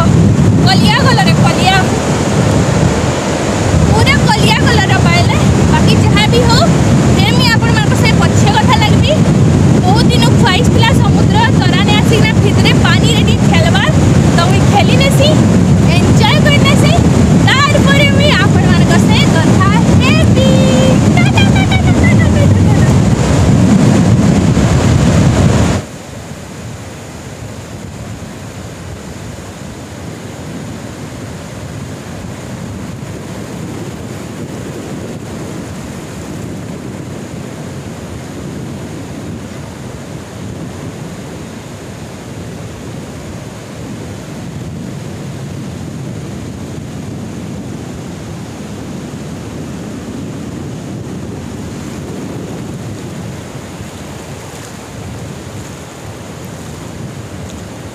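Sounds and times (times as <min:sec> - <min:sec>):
sea surf breaking: 0:00.0 - 0:57.9
wind: 0:00.0 - 0:57.9
wind buffeting microphone: 0:00.0 - 0:57.9.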